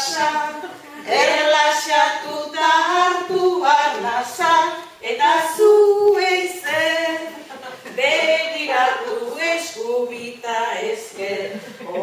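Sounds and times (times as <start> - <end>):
voices singing a cappella: 0.0 - 12.0.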